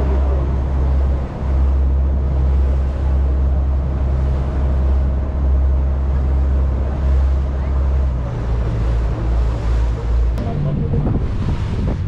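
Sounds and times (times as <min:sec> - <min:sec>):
boat engine droning: 0:00.0 - 0:12.0
steady rushing noise: 0:00.0 - 0:12.0.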